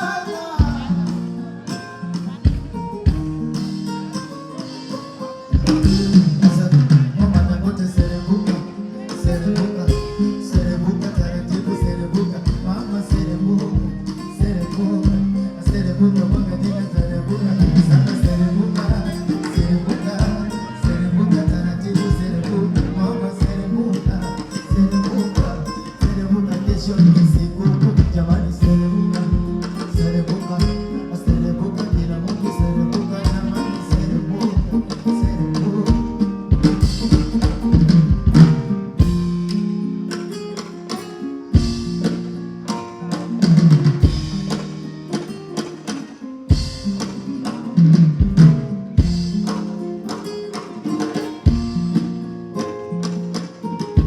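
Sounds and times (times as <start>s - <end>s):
music with drum beat: 0.0s - 54.0s.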